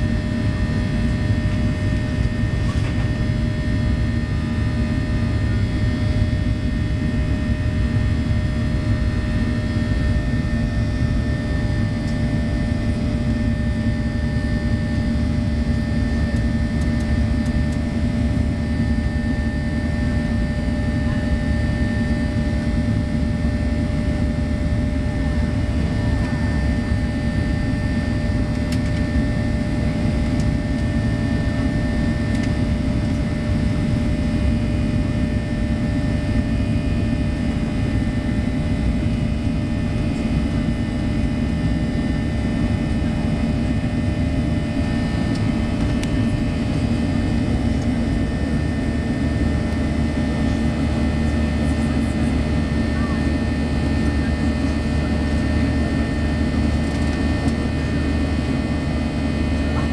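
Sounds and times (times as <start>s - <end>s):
jet engine cabin noise: 0.0s - 59.9s.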